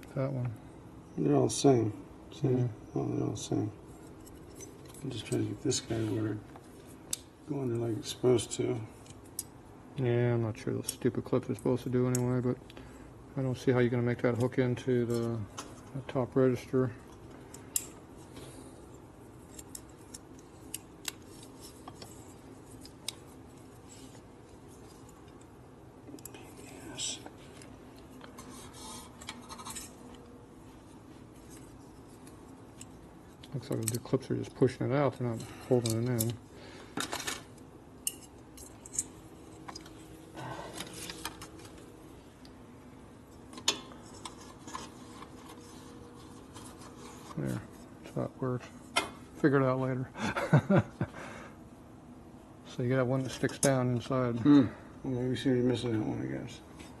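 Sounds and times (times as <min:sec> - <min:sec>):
faint steady background noise: 0:00.0 - 0:57.0
faint steady hum: 0:00.0 - 0:57.0.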